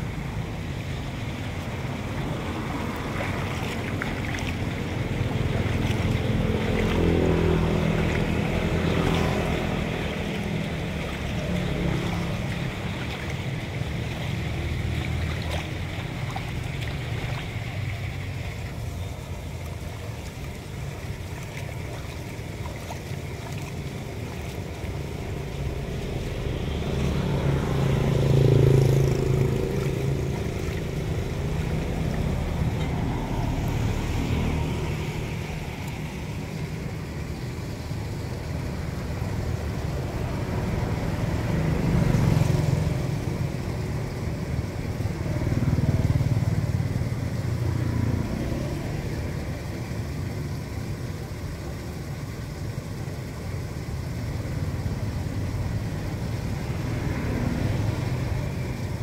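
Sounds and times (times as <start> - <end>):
water pouring through drain grate: 0.0 - 59.0.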